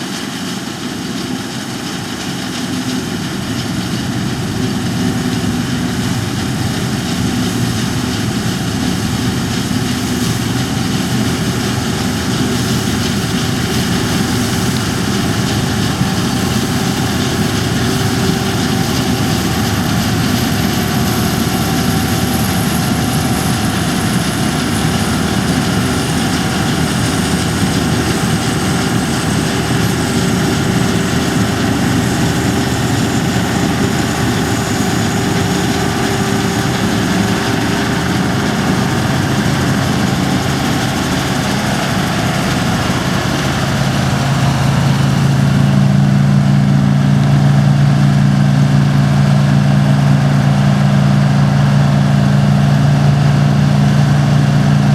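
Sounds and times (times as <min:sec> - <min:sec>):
combine harvester droning: 0:00.0 - 0:54.9.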